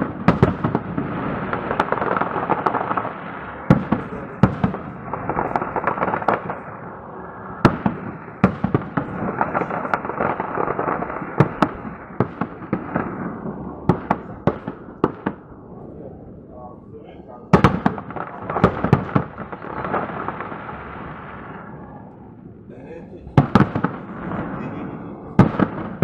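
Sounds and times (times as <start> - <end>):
firework crackling: 0.0 - 15.8, 17.2 - 22.2, 22.8 - 26.0
firework bangs: 0.0 - 16.5, 17.2 - 26.0.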